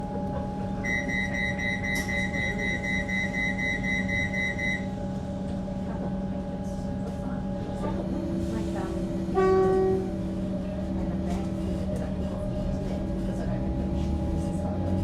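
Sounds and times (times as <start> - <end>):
electric train hum: 0.0 - 15.0.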